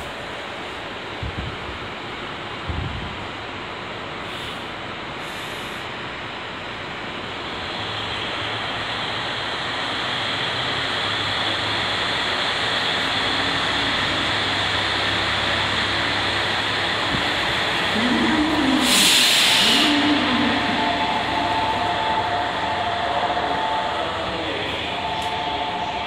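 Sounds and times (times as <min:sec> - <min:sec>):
train running noise from inside: 0:00.0 - 0:26.0.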